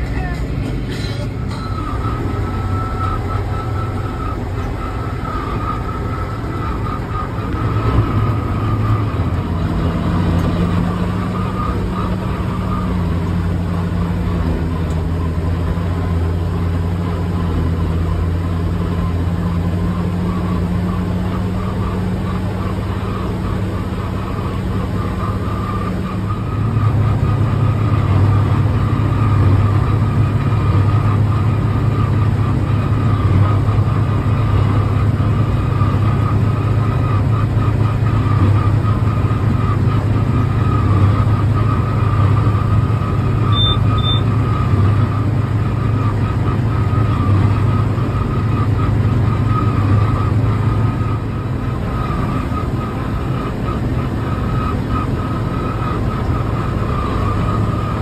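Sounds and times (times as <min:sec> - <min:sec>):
high whine: 0:00.0 - 0:58.0
tractor diesel engine drone: 0:00.0 - 0:58.0.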